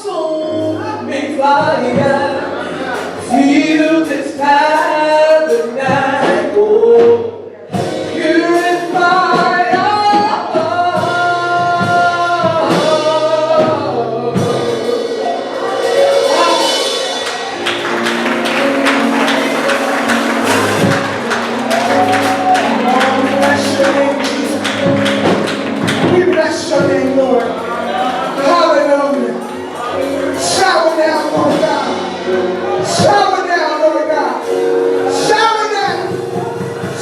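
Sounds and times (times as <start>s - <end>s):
gospel singing with instruments: 0.0s - 37.0s.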